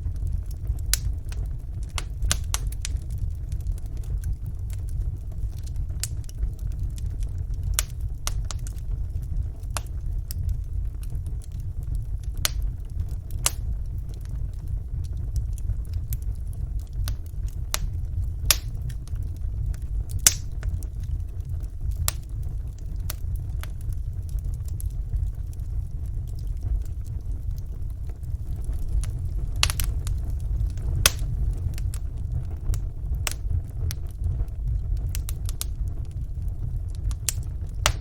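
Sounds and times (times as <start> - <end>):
low rumble of flames: 0.0 - 38.0
wood fire crackling and popping: 0.0 - 38.0.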